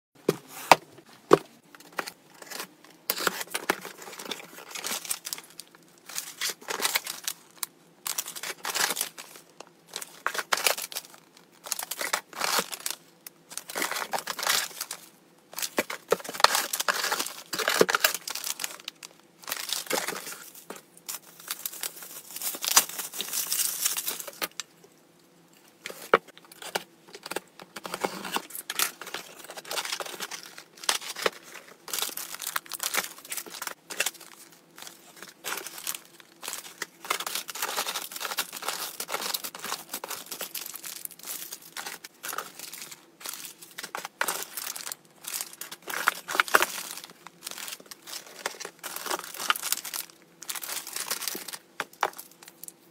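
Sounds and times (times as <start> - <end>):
plastic packaging crinkling: 1.3 - 24.7, 25.8 - 52.8.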